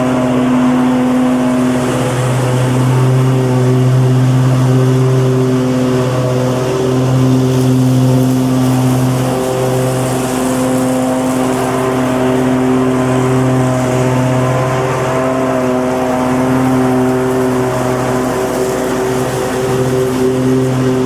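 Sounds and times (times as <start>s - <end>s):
lawnmower engine running: 0.0s - 21.0s.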